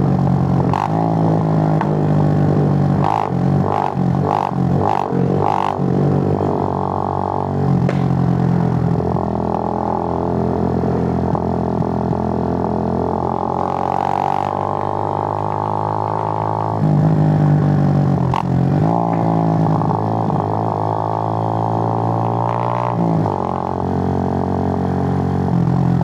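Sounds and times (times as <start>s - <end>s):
motorcycle engine droning: 0.0s - 26.0s.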